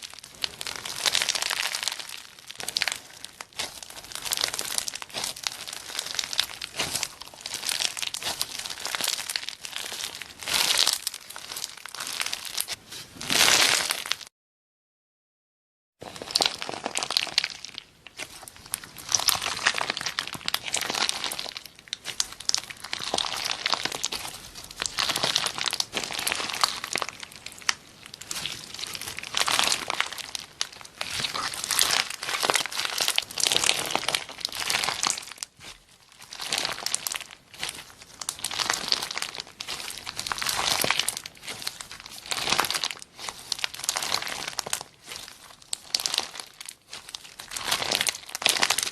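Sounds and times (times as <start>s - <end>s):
slime crackling and popping: 0.0s - 14.3s, 16.0s - 48.9s.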